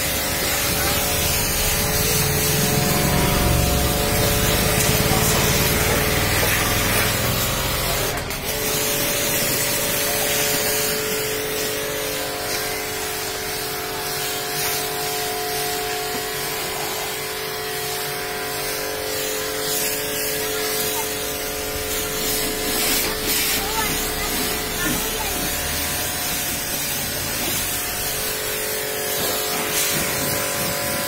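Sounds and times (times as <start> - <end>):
water spraying on car: 0.0 - 31.0.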